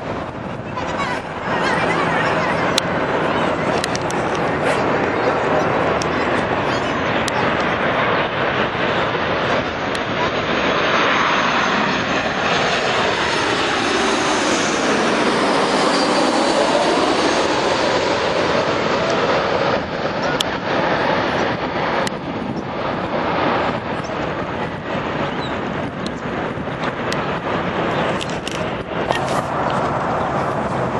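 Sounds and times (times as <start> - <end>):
airliner passing overhead: 0.0 - 30.9.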